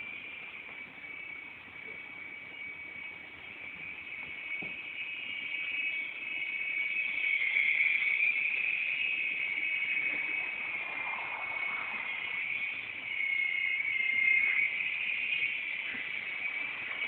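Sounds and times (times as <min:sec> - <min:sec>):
model helicopter motor whine: 0:01.0 - 0:17.0.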